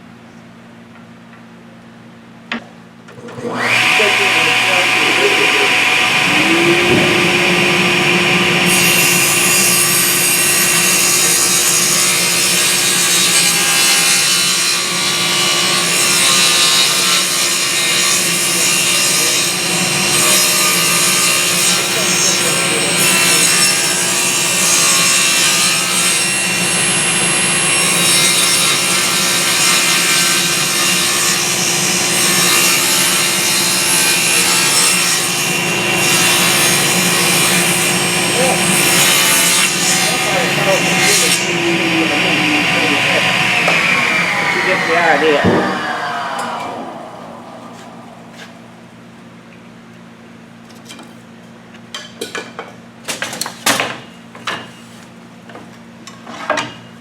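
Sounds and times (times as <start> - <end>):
saw motor hum: 3.2 - 49.2
table saw cutting wood: 3.2 - 49.2.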